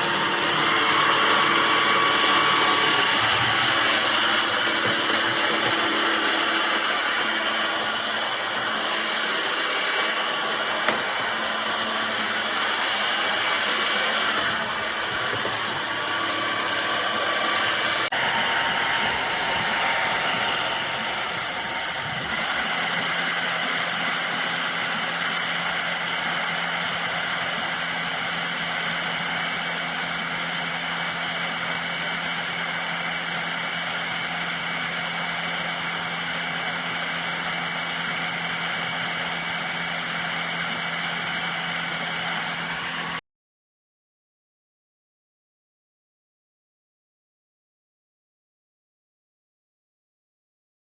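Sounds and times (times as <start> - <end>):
stick vacuum cleaner running: 0.0 - 43.2.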